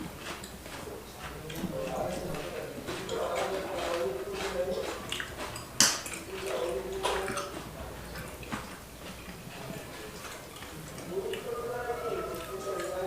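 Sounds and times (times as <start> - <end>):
cutlery clicking on plates: 0.0 - 13.0.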